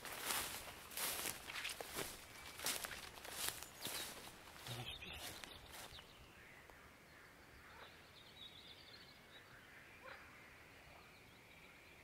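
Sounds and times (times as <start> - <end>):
faint bird chirps: 2.3 - 12.0.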